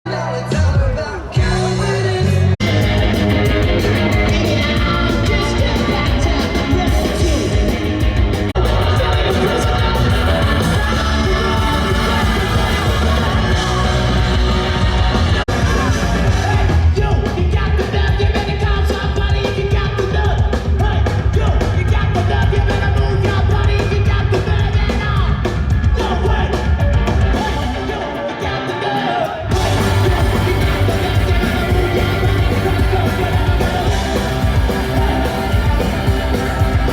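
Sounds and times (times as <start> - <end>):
shouted lead vocals: 0.0 - 36.9
live punk rock band: 0.1 - 36.9.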